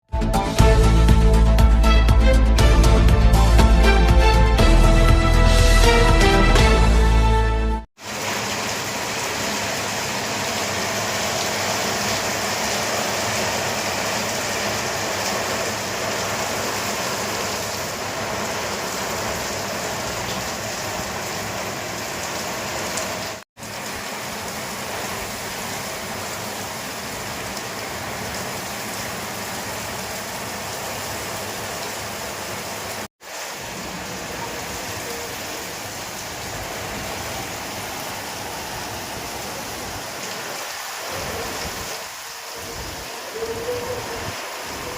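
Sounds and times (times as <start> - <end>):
heavy rain in windy storm: 8.0 - 44.9.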